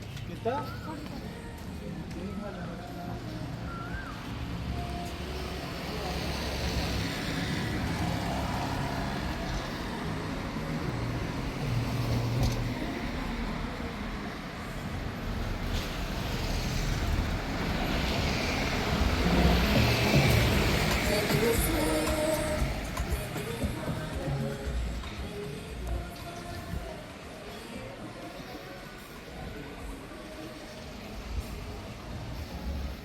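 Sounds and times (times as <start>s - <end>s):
vehicle engines passing by: 0.0s - 33.0s.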